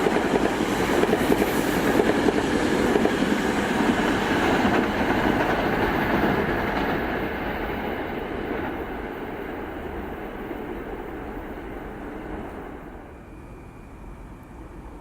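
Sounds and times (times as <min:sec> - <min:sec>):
electric train passing on rails: 0:00.0 - 0:15.0.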